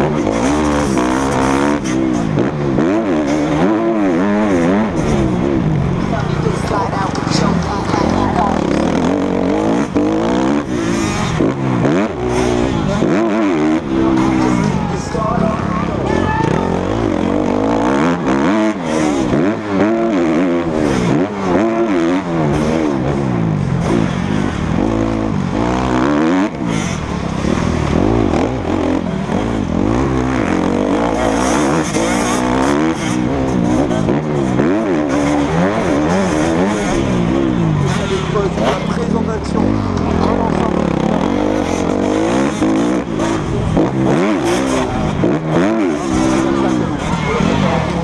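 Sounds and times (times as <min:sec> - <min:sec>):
motocross bike engine revving: 0:00.0 - 0:48.0.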